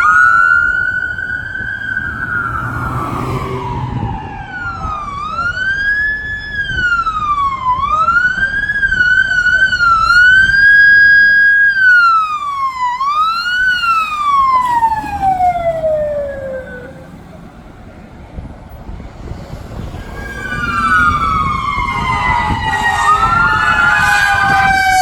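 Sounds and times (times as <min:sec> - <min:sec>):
emergency vehicle siren wailing: 0:00.0 - 0:25.0.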